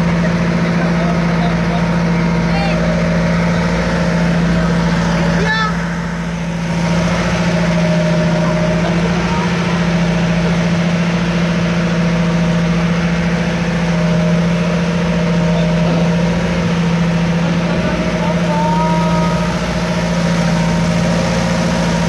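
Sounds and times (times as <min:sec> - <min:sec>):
engine droning steadily: 0:00.0 - 0:22.0.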